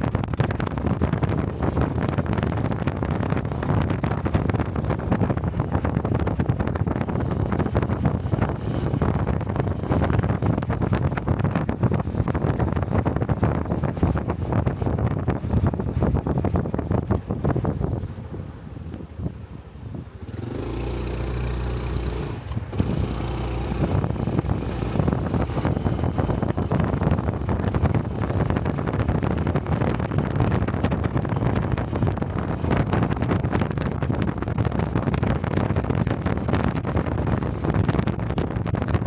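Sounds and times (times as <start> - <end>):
motorcycle engine running: 0.0 - 18.8, 20.0 - 39.0
wind rushing across microphone: 0.0 - 39.0.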